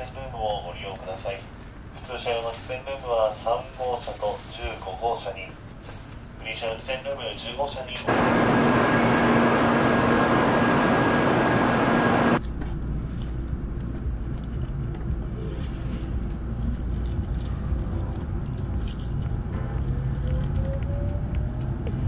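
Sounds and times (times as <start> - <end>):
train rumbling and clicking: 0.0 - 22.0.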